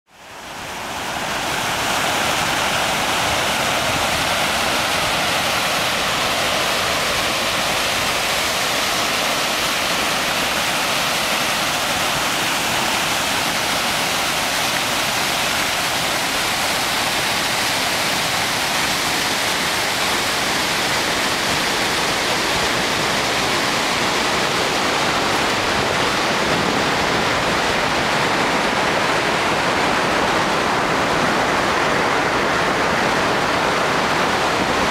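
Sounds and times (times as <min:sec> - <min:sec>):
water rushing over a weir: 0:00.1 - 0:34.9.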